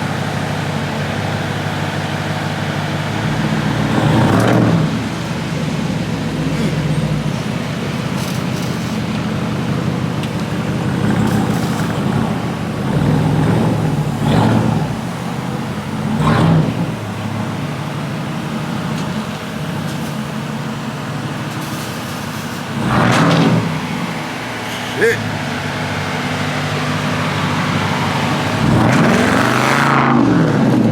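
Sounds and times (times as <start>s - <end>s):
loud car exhaust running: 0.0s - 30.9s.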